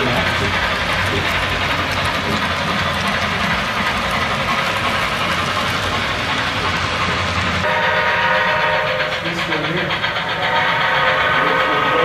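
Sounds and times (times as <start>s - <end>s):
model train cars rolling on track: 0.0s - 12.0s.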